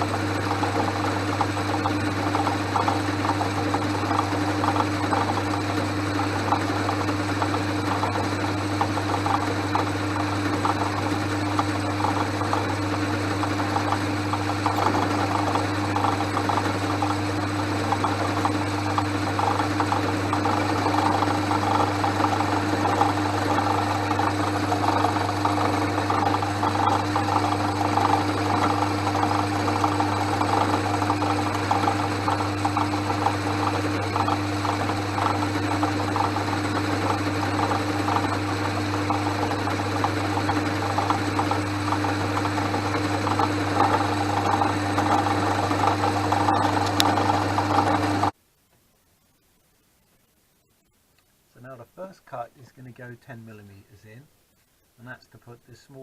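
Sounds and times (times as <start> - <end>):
chattering rattle of lathe spindle: 0.0 - 48.3
lathe motor hum: 0.0 - 48.4.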